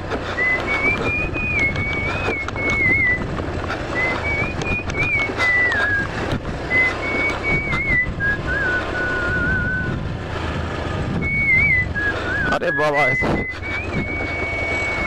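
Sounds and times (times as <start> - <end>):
scooter on dirt track: 0.0 - 15.0
person whistling a tune: 0.4 - 3.3, 3.9 - 10.0, 11.2 - 15.0.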